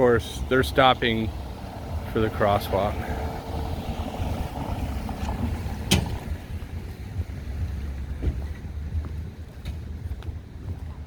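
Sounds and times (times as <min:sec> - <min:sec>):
low rumble of cars: 0:00.0 - 0:11.0
wind buffeting microphone: 0:01.3 - 0:11.0.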